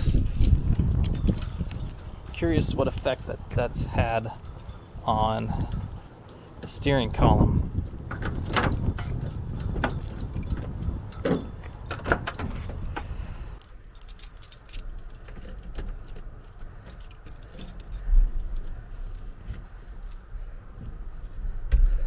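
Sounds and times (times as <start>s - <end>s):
keys jingling: 0.0s - 7.1s, 7.7s - 18.8s.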